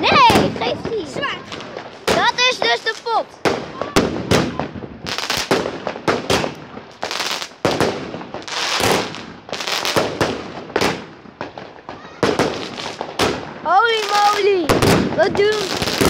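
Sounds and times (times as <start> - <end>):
crackling firework stars: 0.0 - 16.0
firework bangs: 0.0 - 16.0.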